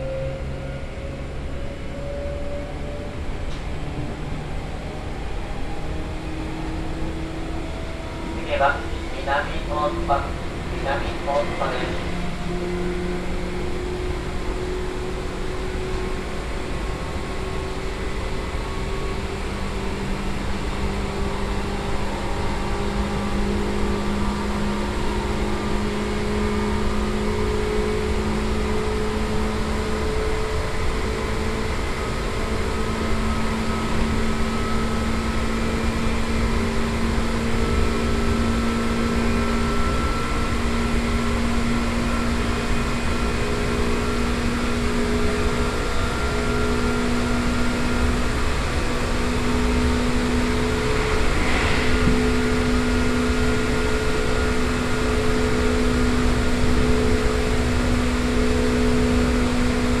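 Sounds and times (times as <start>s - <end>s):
traction motor whine: 0.0s - 60.0s
wheel and rail noise: 0.0s - 60.0s.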